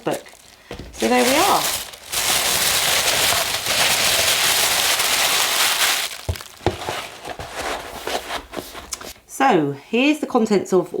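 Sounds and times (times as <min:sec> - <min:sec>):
paper crinkling rustle: 0:00.0 - 0:09.2.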